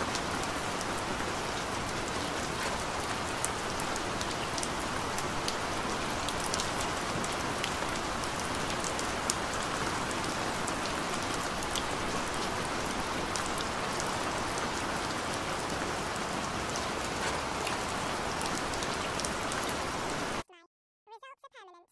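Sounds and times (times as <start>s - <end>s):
steady rain: 0.0s - 20.4s
raindrop ticks: 0.1s - 19.8s.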